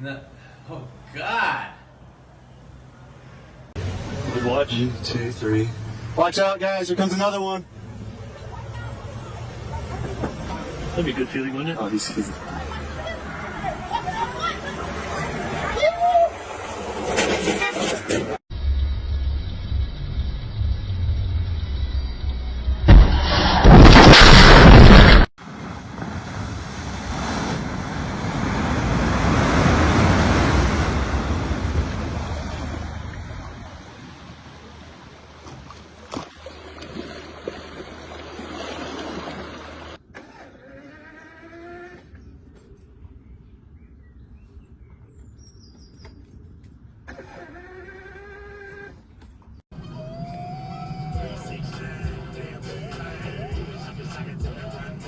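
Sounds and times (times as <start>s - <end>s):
road traffic noise: 0.0s - 23.6s, 25.4s - 55.0s.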